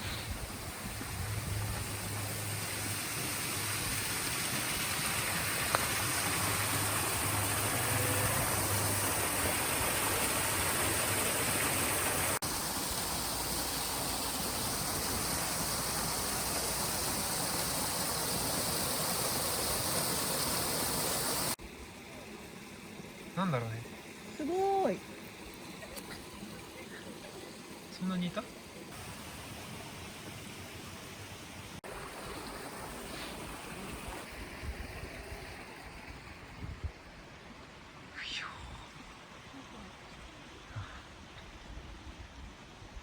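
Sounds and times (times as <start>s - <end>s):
water rushing over rocks: 0.0s - 36.5s.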